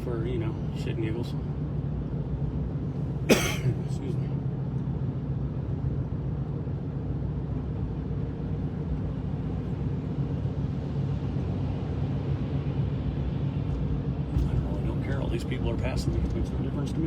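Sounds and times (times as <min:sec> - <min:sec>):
vehicle engine and tyres droning: 0:00.0 - 0:17.0.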